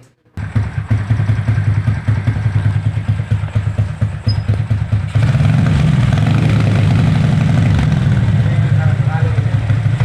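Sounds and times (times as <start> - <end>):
motorcycle engine idling: 0.4 - 10.0.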